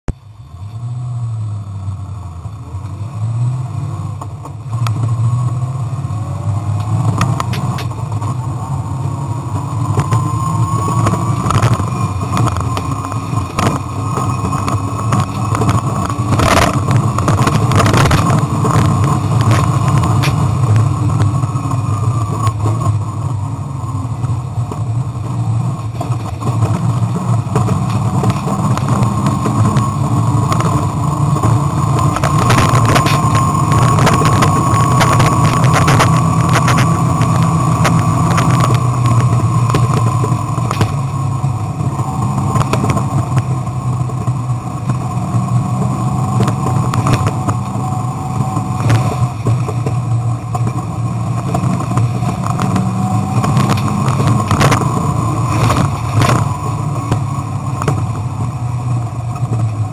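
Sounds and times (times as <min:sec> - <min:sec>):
distorted engine revving: 0:00.4 - 0:59.9
knocks and rattles over bumps: 0:09.2 - 0:23.2, 0:24.6 - 0:59.9.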